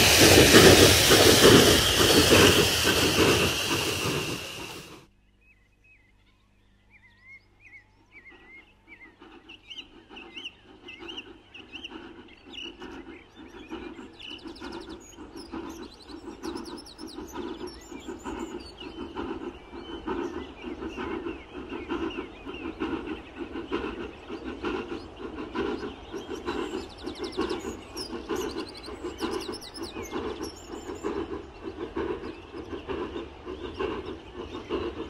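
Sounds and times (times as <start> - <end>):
steam hiss: 0.0 - 5.0, 10.8 - 35.0
steam locomotive exhaust beats: 0.0 - 5.1, 8.3 - 35.0
birdsong: 0.0 - 35.0.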